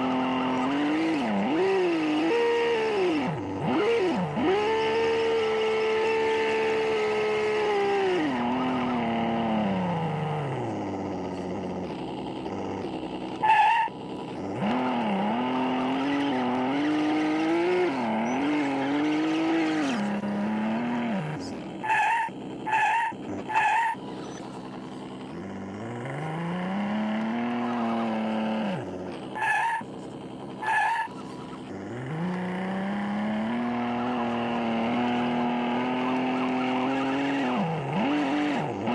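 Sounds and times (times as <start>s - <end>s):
toy car motor whining: 0.0s - 38.9s.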